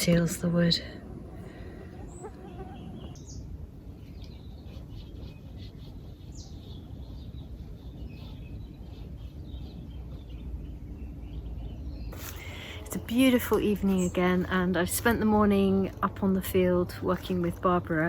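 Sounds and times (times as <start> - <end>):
small birds chirping: 0.0 - 15.8
low steady rumble: 0.0 - 18.0.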